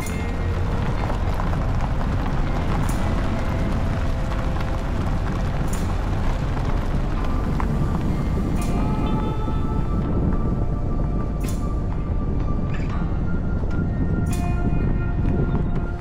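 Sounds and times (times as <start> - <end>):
loud low rumbling: 0.0 - 16.0.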